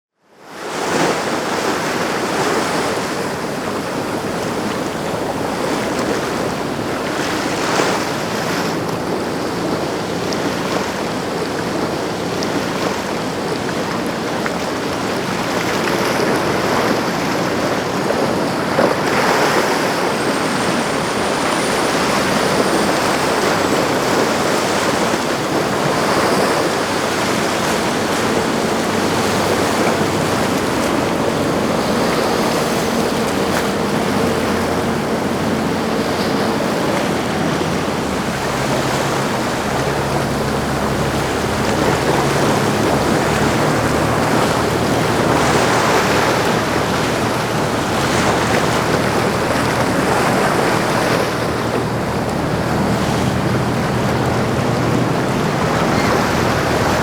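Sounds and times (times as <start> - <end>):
yacht running through water: 0.1 - 57.0
waves rushing: 0.4 - 57.0
wind buffeting microphone: 0.9 - 57.0.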